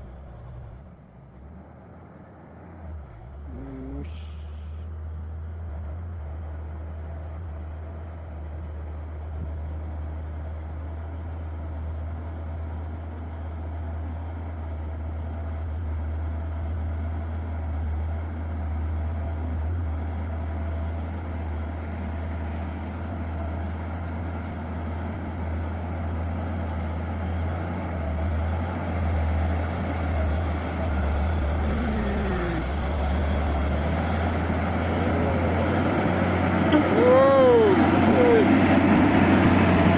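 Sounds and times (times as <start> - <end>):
diesel truck engine labouring: 0.0 - 39.9.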